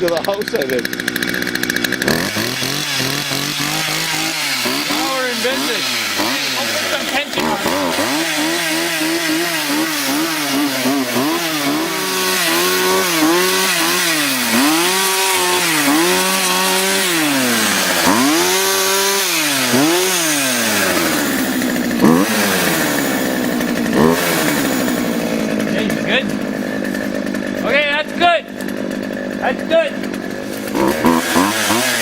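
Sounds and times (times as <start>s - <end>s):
chainsaw cutting tree trunk: 0.0s - 32.0s.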